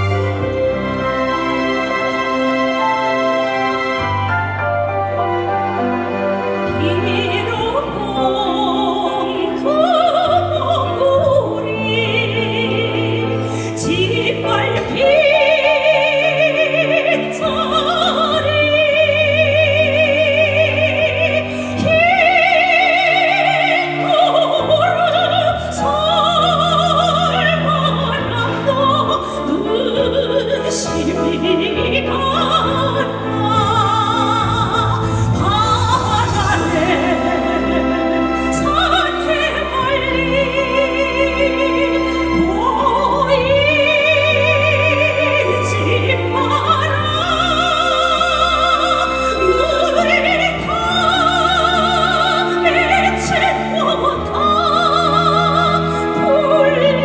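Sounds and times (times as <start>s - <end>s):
orchestral backing track: 0.0s - 57.0s
woman singing operatically: 6.3s - 57.0s.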